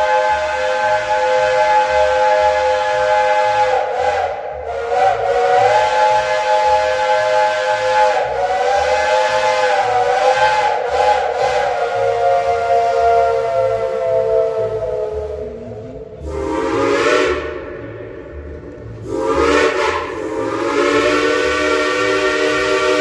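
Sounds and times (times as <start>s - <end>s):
steam locomotive chime whistle: 0.0s - 23.0s.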